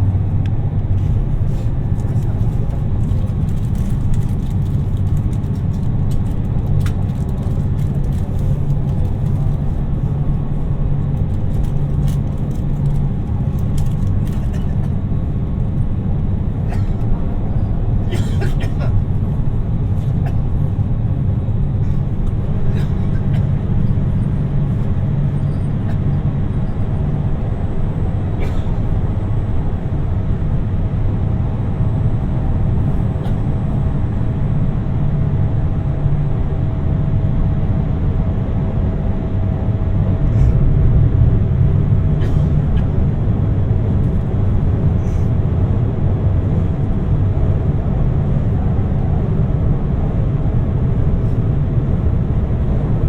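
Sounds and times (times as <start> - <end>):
train running rumble: 0.0 - 53.0
faint steady whine: 8.2 - 53.0.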